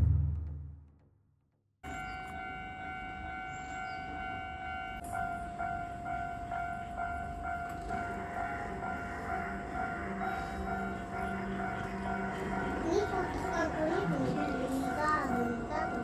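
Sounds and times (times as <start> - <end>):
level crossing warning bell ringing: 1.8 - 16.0
low rumble of a train: 1.8 - 16.0.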